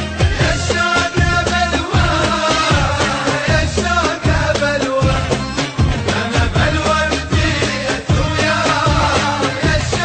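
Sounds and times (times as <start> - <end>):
music with heavy beat: 0.0 - 10.0.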